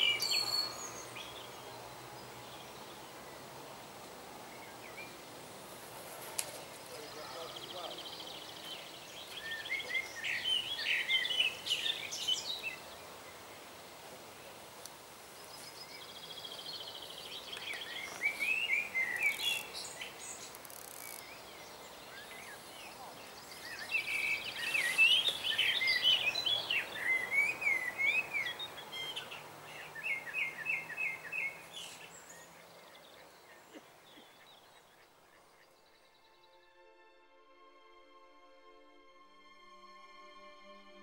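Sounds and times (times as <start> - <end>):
songbirds singing: 0.0 - 36.6.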